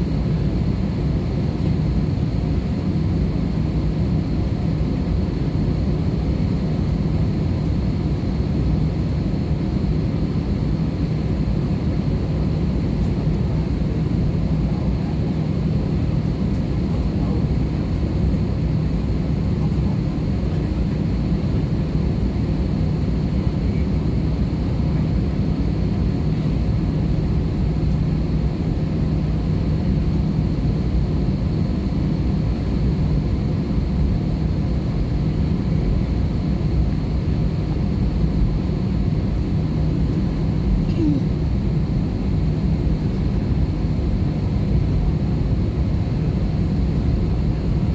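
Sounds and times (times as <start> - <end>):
airplane cabin noise: 0.0 - 47.9.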